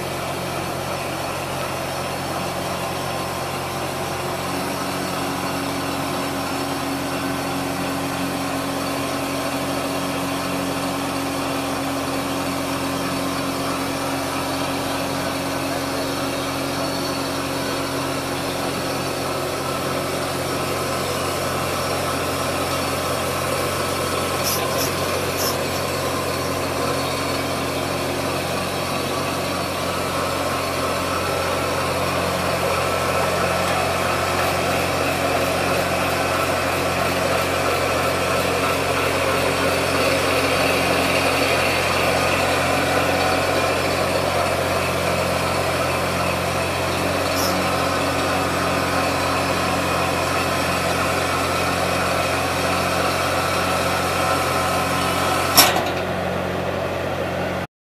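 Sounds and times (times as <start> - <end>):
engine idling: 0.0 - 57.6.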